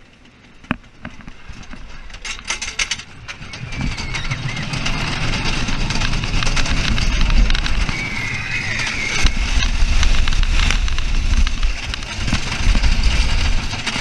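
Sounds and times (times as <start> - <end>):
roller coaster clicks and rattles: 0.0 - 14.0
roller coaster rumble: 0.0 - 14.0
wind noise: 0.6 - 14.0.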